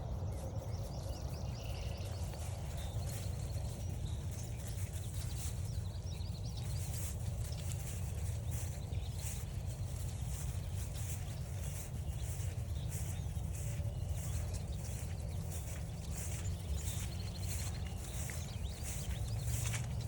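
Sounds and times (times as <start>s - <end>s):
footsteps on forest trail: 0.0s - 20.0s.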